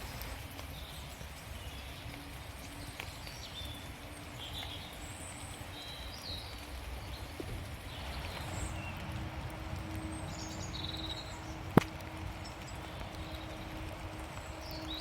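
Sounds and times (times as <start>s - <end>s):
drips ticking: 0.0s - 15.0s
small birds chirping: 0.0s - 15.0s
steady rain in woodland: 0.0s - 15.0s.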